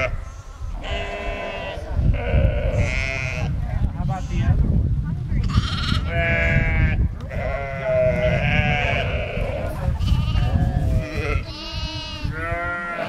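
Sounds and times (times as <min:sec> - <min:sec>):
lambs bleating: 0:00.0 - 0:03.5, 0:05.5 - 0:13.0.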